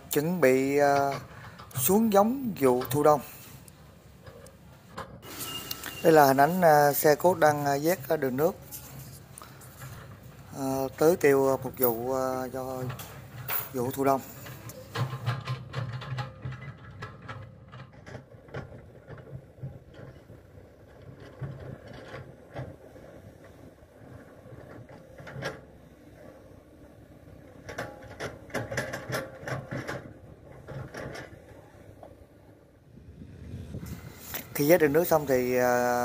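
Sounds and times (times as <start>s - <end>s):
machine clicks and clanks: 0.1s - 32.3s.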